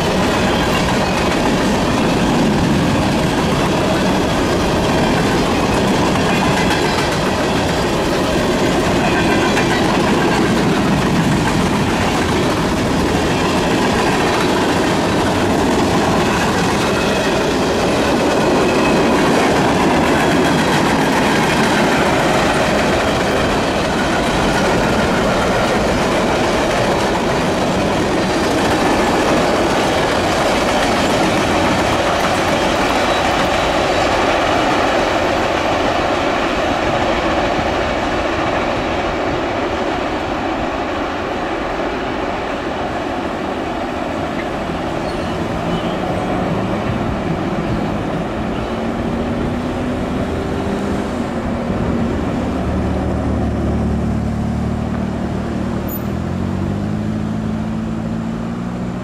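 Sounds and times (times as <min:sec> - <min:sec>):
diesel locomotive engine: 0:00.0 - 0:59.0
freight cars rolling on rails: 0:00.0 - 0:59.0.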